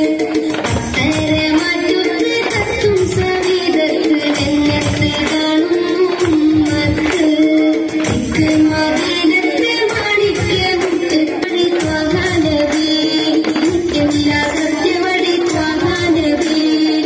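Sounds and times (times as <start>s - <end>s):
frame drums beaten: 0.0s - 16.5s.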